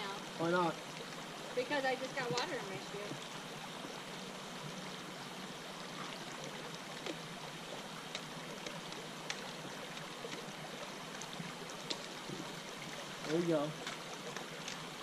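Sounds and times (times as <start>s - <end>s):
creek water running over rocks: 0.0s - 15.0s.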